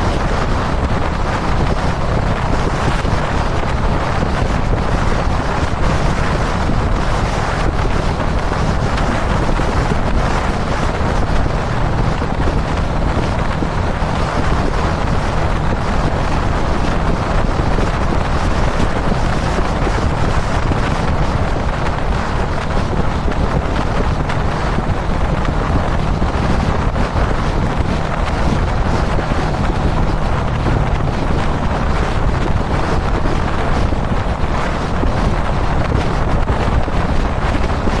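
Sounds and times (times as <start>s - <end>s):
motorcycle engine running: 0.0s - 38.0s
wind rushing over microphone: 0.0s - 38.0s.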